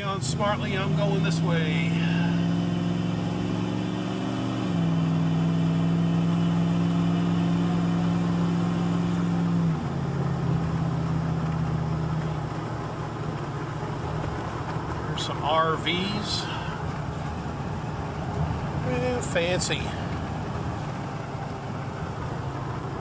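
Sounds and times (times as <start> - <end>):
pickup engine accelerating: 0.0 - 23.0.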